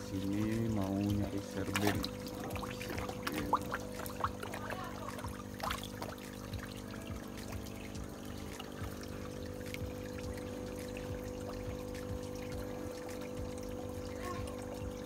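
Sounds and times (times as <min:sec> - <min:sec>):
fish splashing and slurping: 0:00.0 - 0:15.0
steady hum: 0:00.0 - 0:15.0
water trickling: 0:00.0 - 0:15.0.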